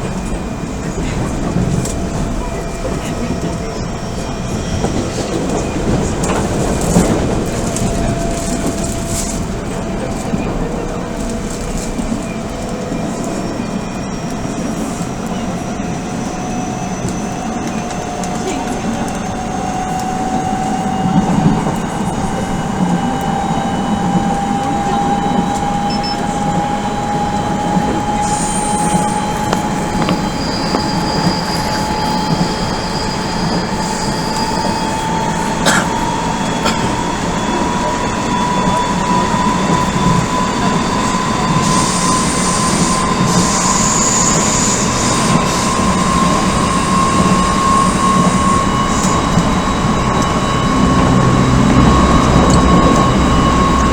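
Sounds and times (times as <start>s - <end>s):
electric train motor whine: 0.0s - 53.9s
wheels rumbling on rails: 0.0s - 53.9s.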